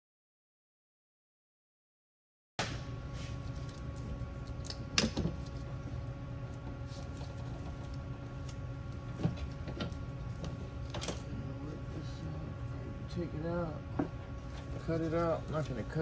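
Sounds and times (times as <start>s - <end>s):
steady background hum: 2.6s - 16.0s.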